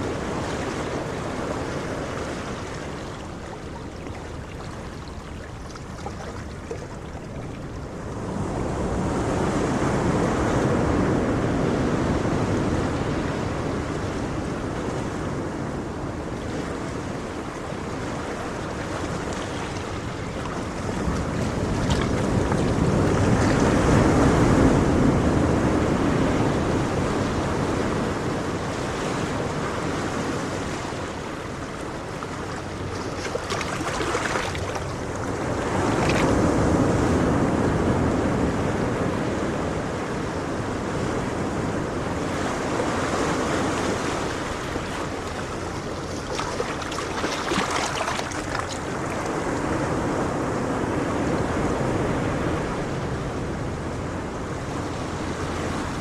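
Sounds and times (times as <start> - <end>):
ocean waves breaking on shore: 0.0 - 56.0
wind buffeting microphone: 0.0 - 56.0.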